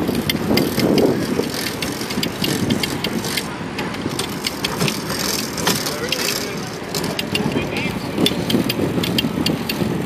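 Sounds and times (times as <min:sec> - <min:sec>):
bicycle clicks and rattles: 0:00.0 - 0:10.0
road and wind noise: 0:00.0 - 0:10.0.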